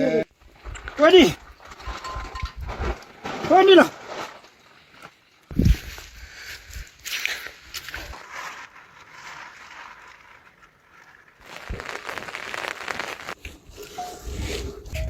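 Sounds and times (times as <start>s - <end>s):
dry rustling and crackling: 0.4s - 15.0s.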